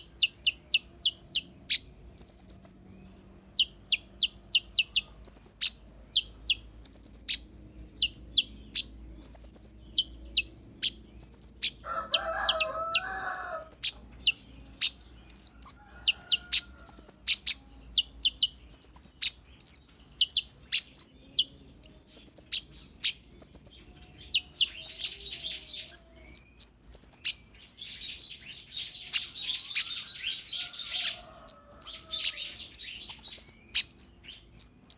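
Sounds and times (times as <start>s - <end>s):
sunbird singing high chirps: 0.0s - 34.9s.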